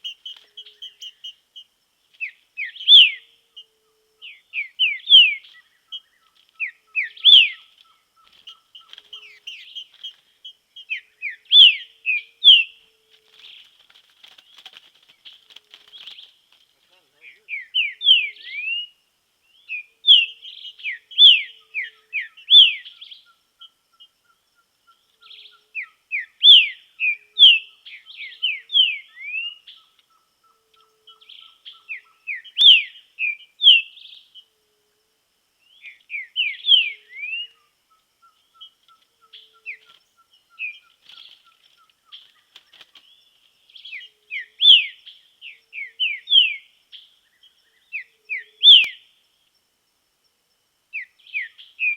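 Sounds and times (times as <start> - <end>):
bird whistling song: 0.0 - 12.8, 17.2 - 34.4, 35.6 - 42.2, 43.1 - 49.1, 50.9 - 51.9.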